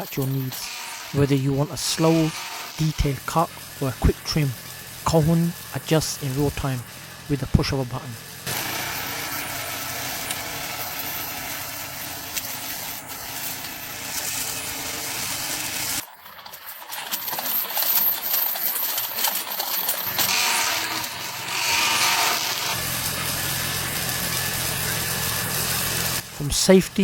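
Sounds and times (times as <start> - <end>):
lawn mower cutting grass: 0.0 - 27.0.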